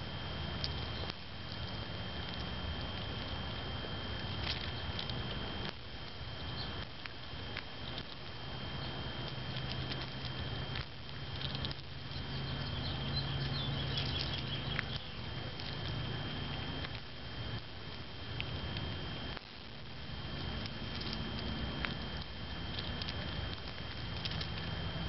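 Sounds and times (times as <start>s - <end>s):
faint crackling: 0.0s - 25.0s
squirrel cracking seeds: 0.4s - 25.0s.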